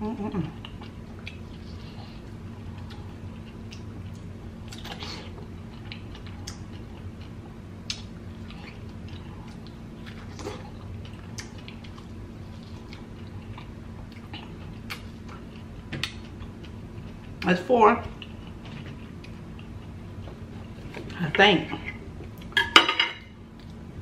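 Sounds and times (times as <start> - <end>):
chewing juicy fruit: 0.2 - 21.2.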